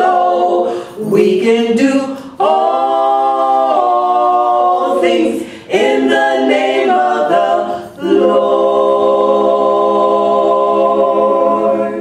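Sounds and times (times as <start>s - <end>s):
women singing gospel in harmony: 0.0s - 12.0s.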